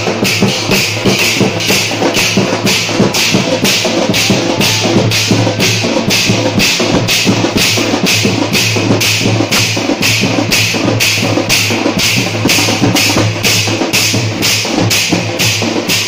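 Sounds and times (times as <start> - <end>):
barrel drum beaten fast: 0.0 - 16.0.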